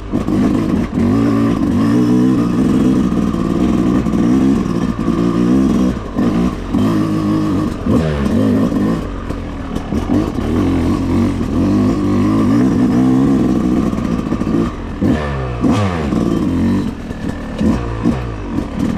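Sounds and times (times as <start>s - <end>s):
dirt bike engine lugging: 0.0s - 18.9s.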